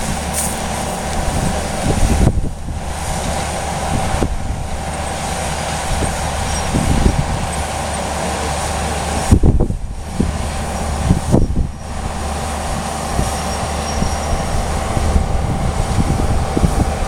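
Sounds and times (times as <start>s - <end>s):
mechanical rumble with hum: 0.0s - 17.0s.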